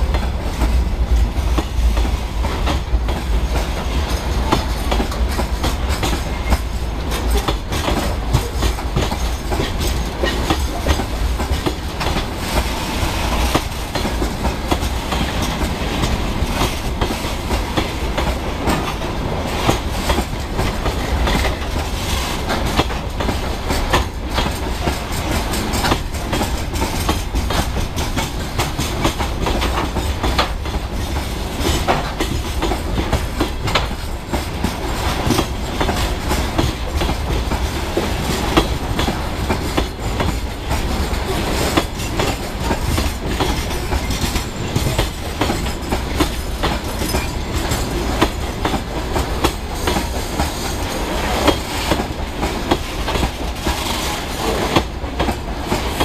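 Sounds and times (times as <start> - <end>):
train wheels rumbling on rail: 0.0 - 56.0
wheels clattering over rail joints: 0.0 - 56.0.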